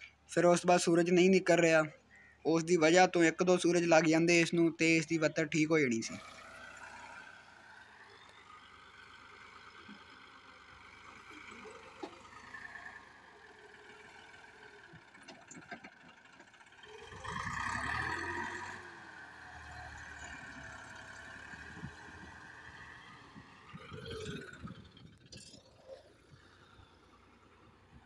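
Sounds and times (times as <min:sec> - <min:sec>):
tractor diesel engine running: 0:04.4 - 0:28.0.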